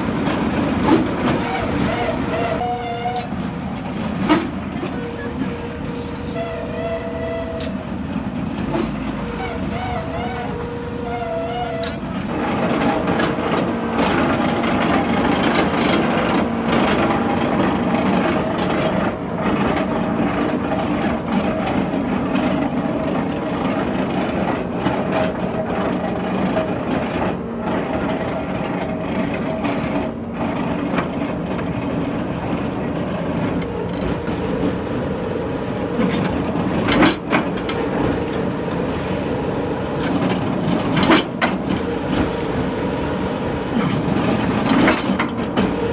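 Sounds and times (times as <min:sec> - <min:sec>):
piling machine clattering: 0:00.0 - 0:45.9.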